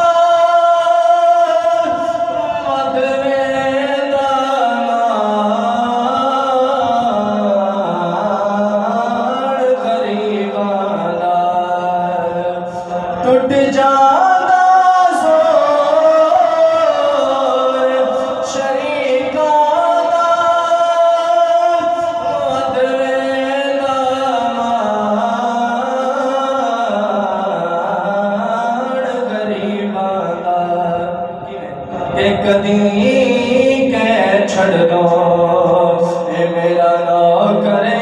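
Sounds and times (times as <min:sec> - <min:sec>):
man singing unaccompanied: 0:00.0 - 0:38.0.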